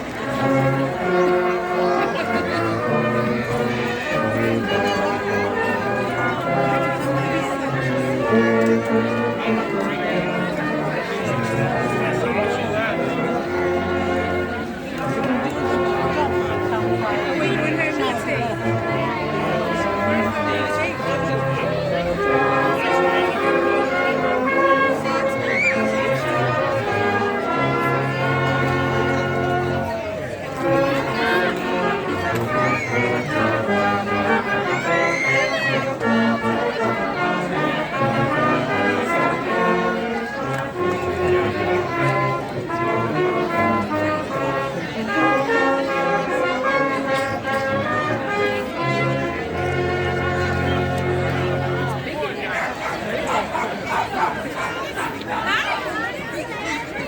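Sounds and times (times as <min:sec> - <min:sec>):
orchestral music with brass: 0:00.0 - 0:57.0.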